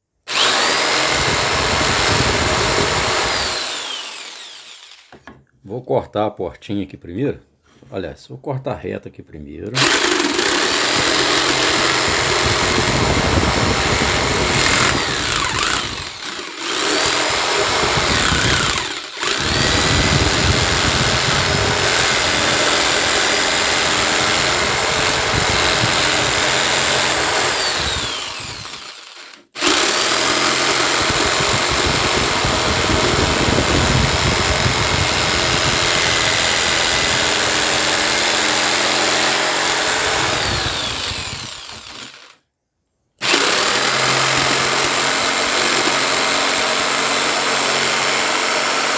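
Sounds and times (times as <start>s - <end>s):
jigsaw cutting wood: 0.2s - 5.4s, 9.8s - 42.4s, 43.2s - 48.9s.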